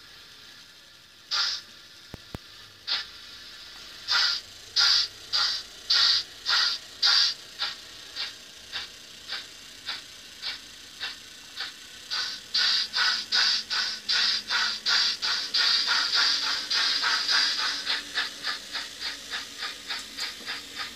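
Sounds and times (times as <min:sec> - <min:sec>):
steam locomotive exhaust chuffs: 0:00.0 - 0:20.9.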